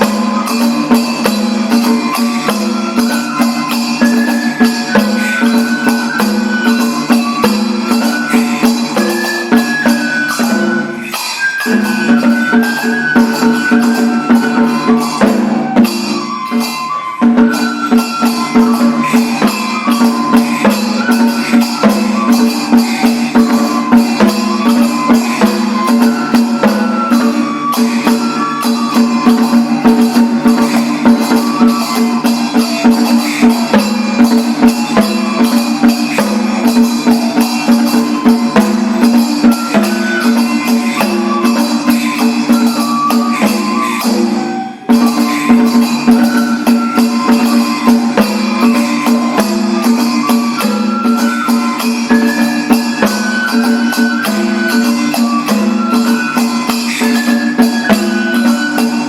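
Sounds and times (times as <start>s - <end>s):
festival melody: 0.0s - 59.0s.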